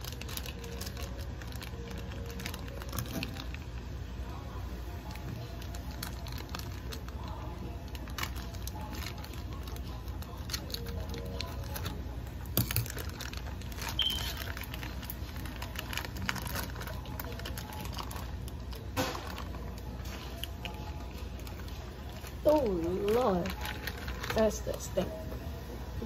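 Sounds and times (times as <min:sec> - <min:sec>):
plastic wrapping crinkling: 0:00.0 - 0:25.3.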